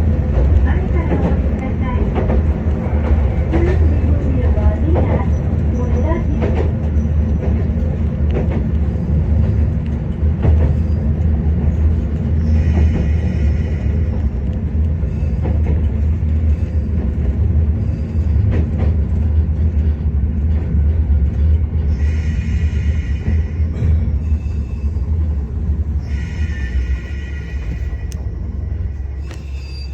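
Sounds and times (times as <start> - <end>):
railcar rumbling: 0.0 - 29.9.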